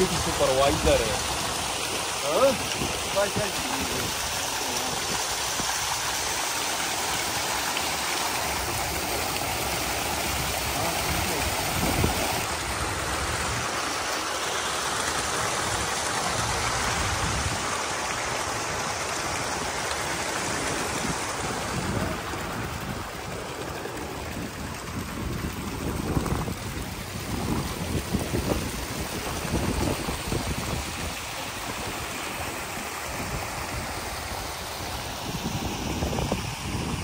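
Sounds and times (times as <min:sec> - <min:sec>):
water rushing through channels: 0:00.0 - 0:37.0.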